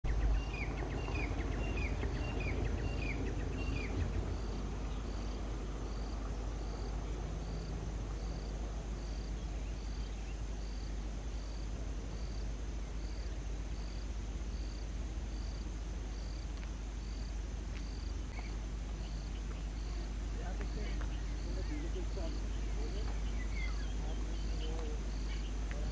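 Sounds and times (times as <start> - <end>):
insect chirping: 0.0 - 25.9
steady low rumble: 0.0 - 25.9.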